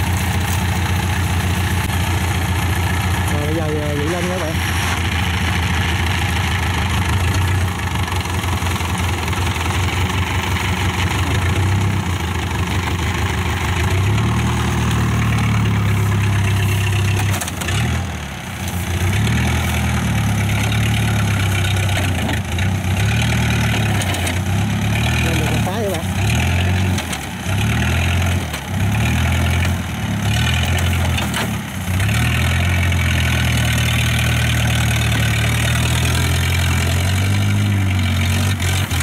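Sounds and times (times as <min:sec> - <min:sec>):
combine harvester diesel engine: 0:00.0 - 0:39.0.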